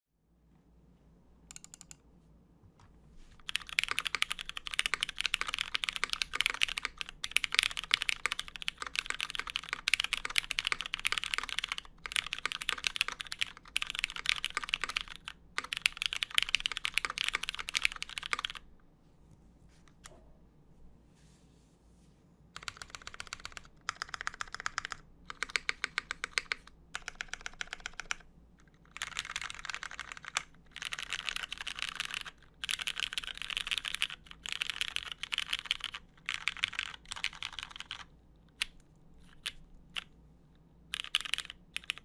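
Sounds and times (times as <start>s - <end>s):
fast mechanical keyboard typing: 1.5s - 2.0s, 3.4s - 18.6s, 22.6s - 40.1s, 40.9s - 42.0s.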